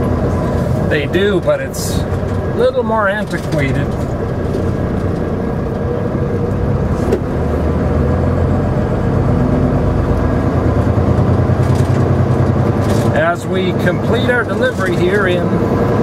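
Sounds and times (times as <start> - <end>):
truck engine and road hum: 0.0 - 16.0.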